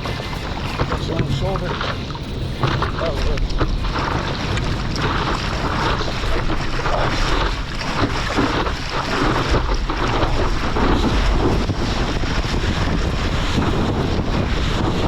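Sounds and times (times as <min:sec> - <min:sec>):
ocean water rushing and sloshing: 0:00.0 - 0:15.0
wind buffeting microphone: 0:00.0 - 0:15.0.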